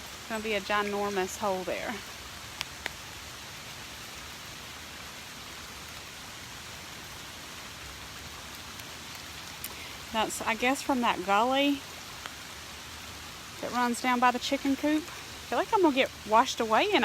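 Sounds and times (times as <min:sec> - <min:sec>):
rain falling: 0:00.0 - 0:17.0
runoff water rushing: 0:00.0 - 0:17.0.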